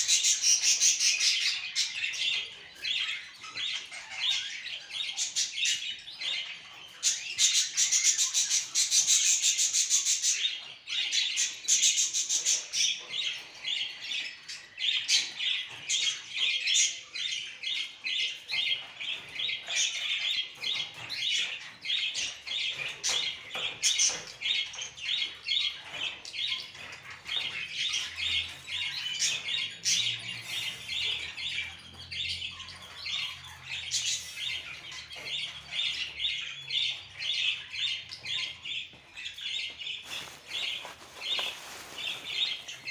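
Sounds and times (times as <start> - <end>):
caged birds chirping and squawking: 0.0 - 42.9.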